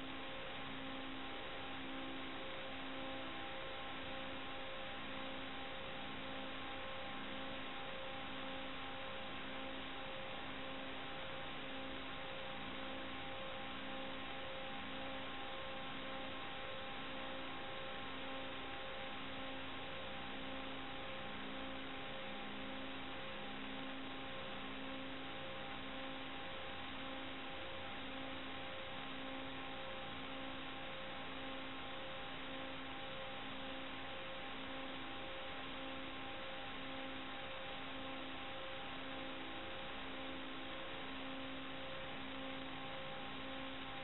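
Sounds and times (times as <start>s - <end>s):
faint steady tones: 0.0s - 44.0s.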